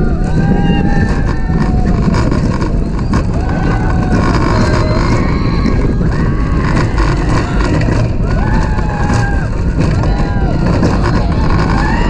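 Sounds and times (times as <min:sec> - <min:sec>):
roller coaster riders yelling: 0:00.0 - 0:12.0
roller coaster train rumbling: 0:00.0 - 0:12.0
wind rushing: 0:00.0 - 0:12.0.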